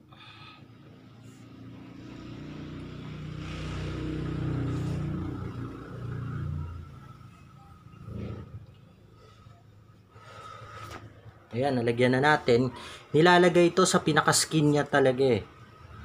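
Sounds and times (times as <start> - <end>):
vehicle engine passing by: 0.1 - 16.0.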